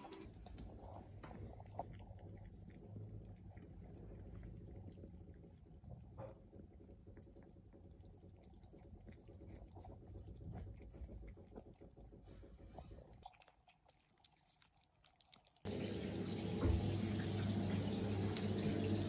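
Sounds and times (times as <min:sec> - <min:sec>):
cats lapping water: 0:00.0 - 0:19.0.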